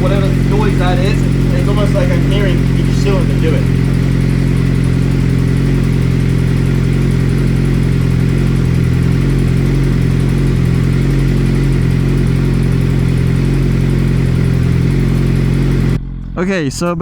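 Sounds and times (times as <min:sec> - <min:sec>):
engine clicking: 0:00.0 - 0:16.4
motorcycle engine idling: 0:00.0 - 0:16.5.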